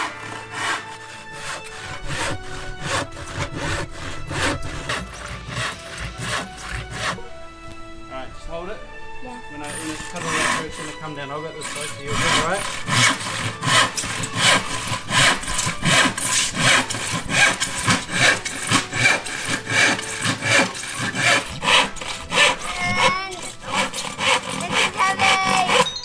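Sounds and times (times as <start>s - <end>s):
hand saw cutting wood: 0.0s - 7.3s, 9.6s - 26.0s.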